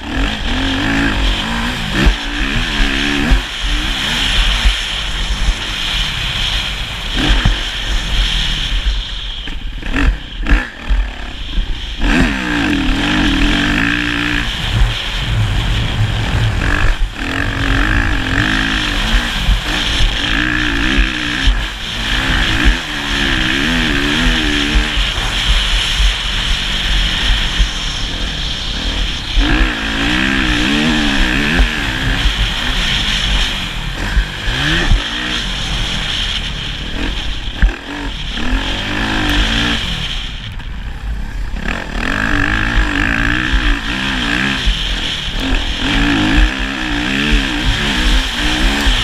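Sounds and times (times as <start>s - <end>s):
motocross engine revving: 0.0s - 8.7s, 9.5s - 49.0s.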